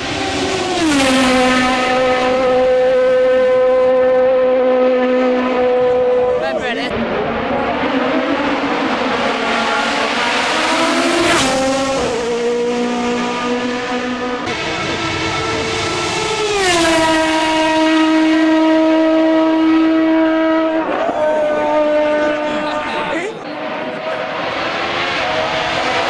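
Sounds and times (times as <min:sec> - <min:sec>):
race car engines at high revs: 0:00.0 - 0:26.0.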